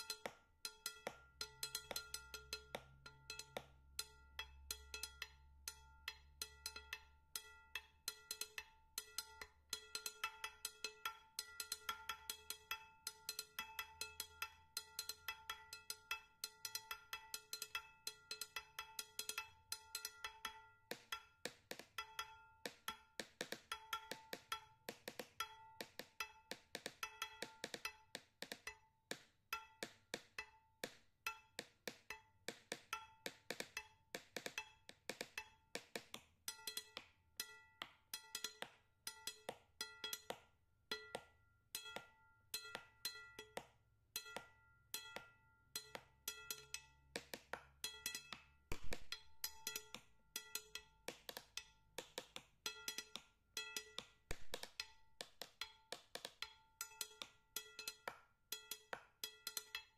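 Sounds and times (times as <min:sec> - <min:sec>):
wood block percussion music: 0:00.0 - 0:59.9.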